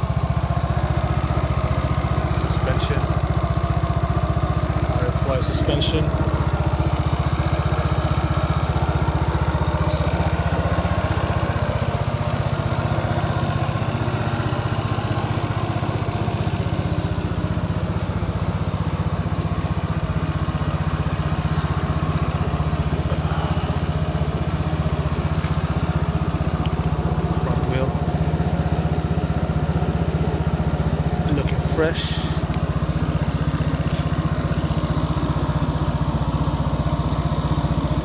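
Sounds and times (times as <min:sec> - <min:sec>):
scooter engine idling: 0:00.0 - 0:38.0.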